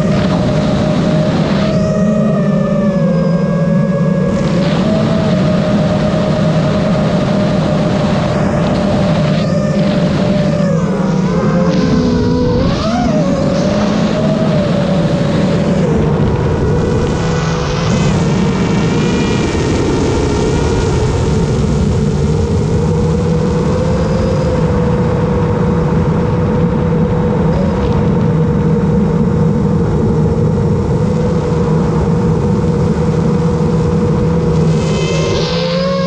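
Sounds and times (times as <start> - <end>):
drone motors whining: 0.0 - 36.0
steady rushing noise: 0.0 - 36.0.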